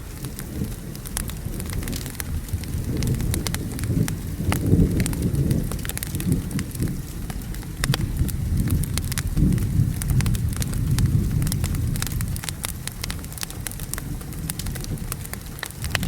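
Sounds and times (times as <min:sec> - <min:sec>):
rolling thunder: 0:00.0 - 0:16.0
steady rain: 0:00.0 - 0:16.0
wood fire crackling and popping: 0:00.0 - 0:16.0.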